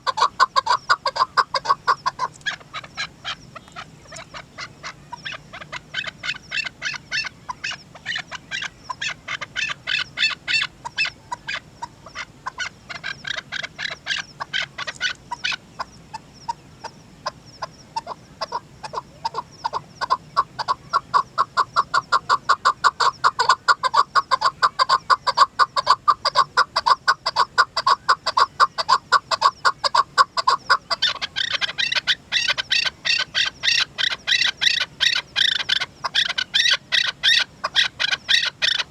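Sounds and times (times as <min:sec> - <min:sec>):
partridge clucking calls: 0:00.0 - 0:38.9.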